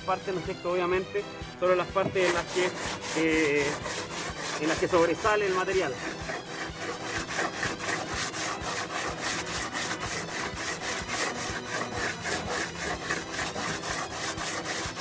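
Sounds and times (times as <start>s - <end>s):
sandpaper rubbing back and forth: 1.7s - 15.0s.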